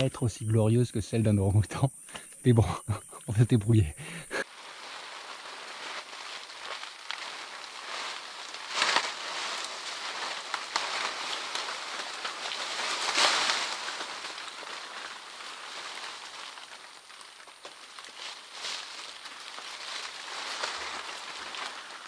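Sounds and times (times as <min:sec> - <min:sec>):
branches and leaves rustling: 0:00.0 - 0:22.0.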